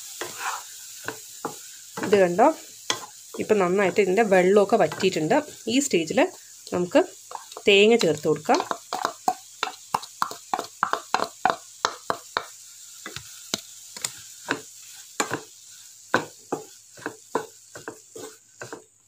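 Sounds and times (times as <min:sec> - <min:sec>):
wooden spatula scraping and tapping: 0:00.1 - 0:02.3, 0:02.9 - 0:05.6, 0:06.6 - 0:15.5, 0:16.1 - 0:18.9.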